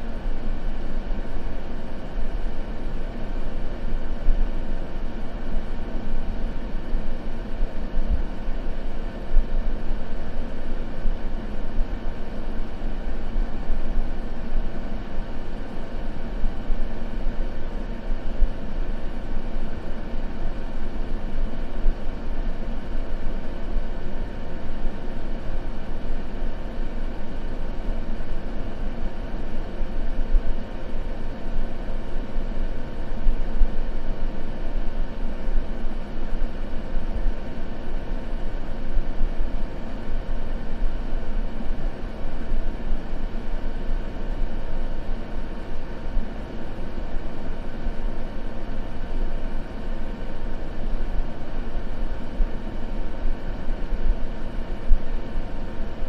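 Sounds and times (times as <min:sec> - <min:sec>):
deep white noise: 0:00.0 - 0:56.0
faint steady hum: 0:00.0 - 0:56.0.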